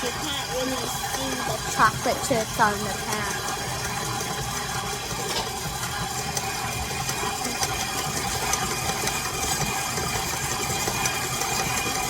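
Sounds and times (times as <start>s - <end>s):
electric mixer motor whirring: 0.0s - 12.0s.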